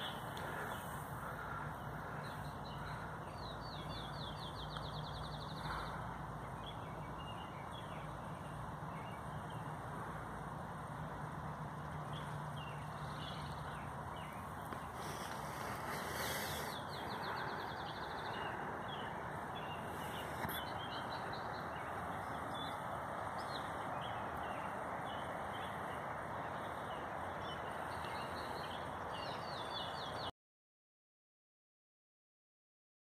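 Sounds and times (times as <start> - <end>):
songbirds chirping and singing: 0.0 - 30.3
steady outdoor hiss: 0.0 - 30.3.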